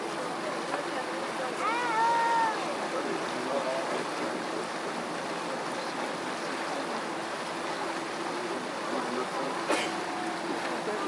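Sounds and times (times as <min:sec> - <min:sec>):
river water rushing along boat: 0:00.0 - 0:11.0.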